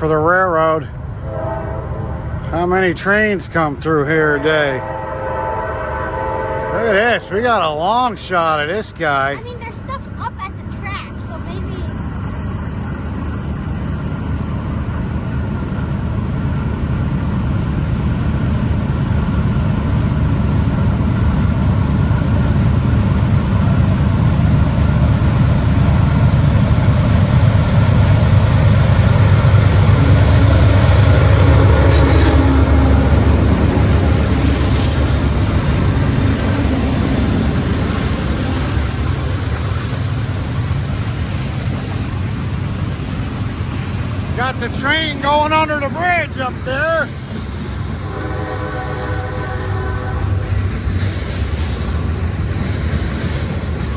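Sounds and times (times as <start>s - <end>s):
freight train passing: 0.0s - 53.9s.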